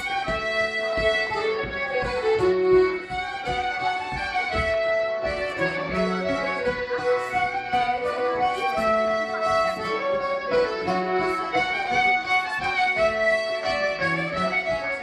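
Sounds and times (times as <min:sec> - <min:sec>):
button accordion: 0:00.0 - 0:15.0
fiddles playing melody: 0:00.0 - 0:15.0
plucked bouzouki: 0:00.0 - 0:15.0.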